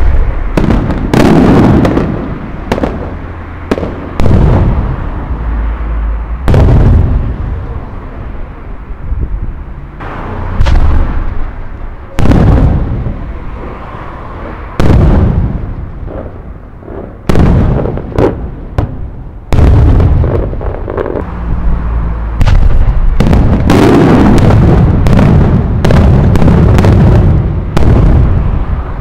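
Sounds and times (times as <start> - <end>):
firework bangs: 0.0 - 8.4, 10.0 - 21.3, 22.3 - 29.0.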